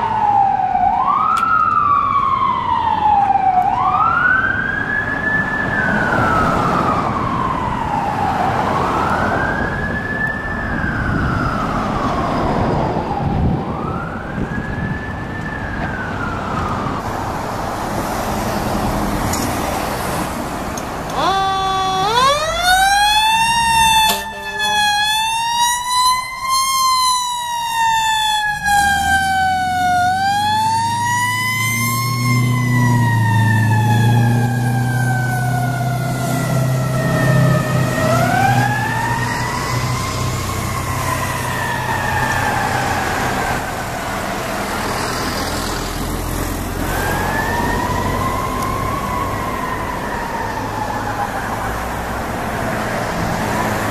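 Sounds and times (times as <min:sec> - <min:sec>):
second fire truck siren: 0:00.0 - 0:17.4, 0:20.1 - 0:53.9
fire engine siren wailing: 0:00.0 - 0:19.1, 0:19.8 - 0:53.9.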